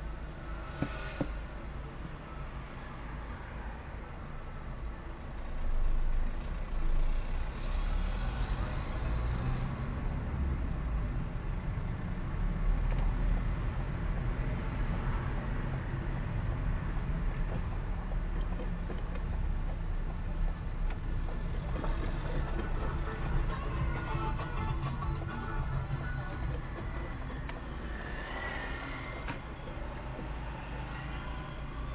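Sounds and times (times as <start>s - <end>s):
car engine and road noise: 0.0s - 31.9s.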